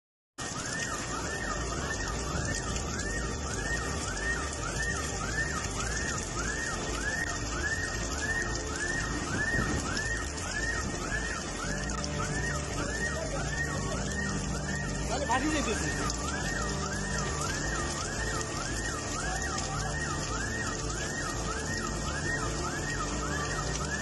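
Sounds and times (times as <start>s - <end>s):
rain hiss: 0.4s - 24.0s
electronic alarm wailing: 0.5s - 24.0s.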